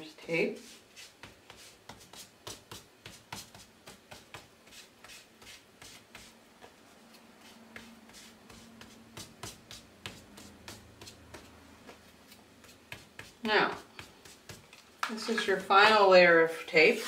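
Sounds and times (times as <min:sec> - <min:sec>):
cloth scuffing strokes: 0:00.5 - 0:14.7.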